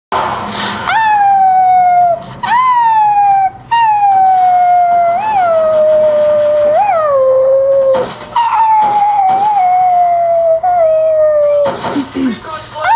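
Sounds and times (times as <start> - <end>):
high whining howl: 0.8 - 11.9.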